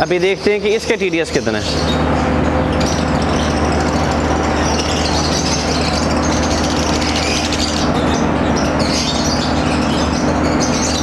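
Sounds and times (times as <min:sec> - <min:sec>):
electric fan humming: 0:00.0 - 0:11.0
lovebirds chattering: 0:00.0 - 0:11.0.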